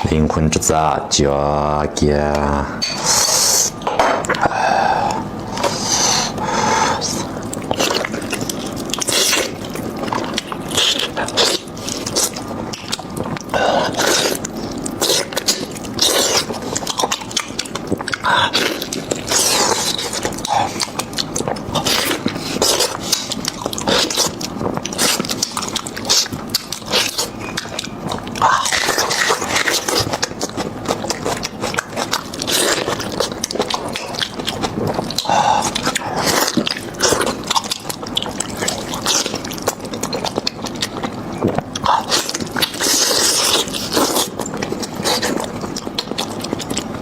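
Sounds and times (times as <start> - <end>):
close chewing and smacking: 3.0 - 47.0.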